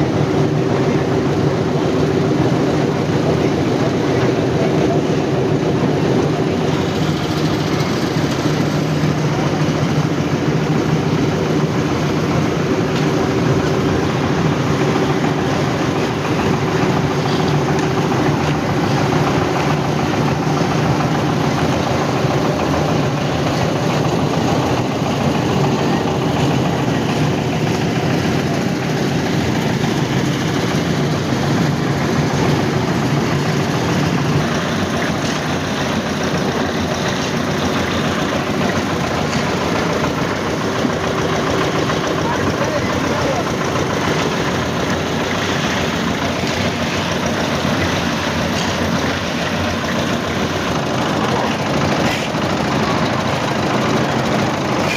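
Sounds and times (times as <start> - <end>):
construction machinery engine running: 0.0 - 54.9.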